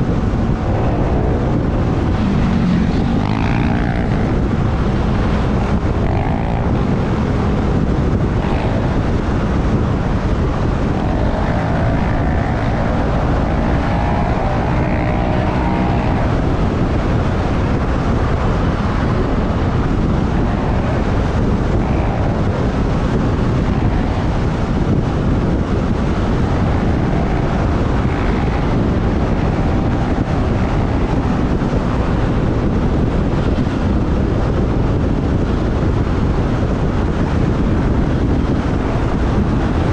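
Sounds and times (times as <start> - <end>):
motorbike engine: 0.0 - 39.9
surrounding traffic: 0.0 - 39.9
wind rushing over microphone: 0.0 - 39.9.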